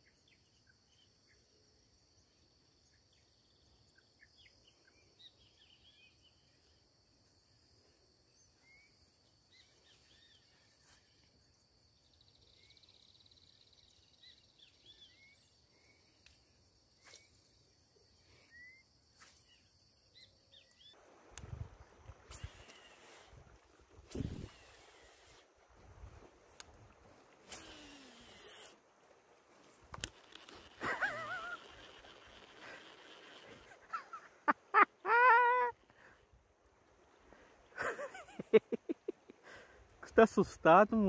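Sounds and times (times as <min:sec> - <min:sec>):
high insect drone: 0:00.0 - 0:34.5.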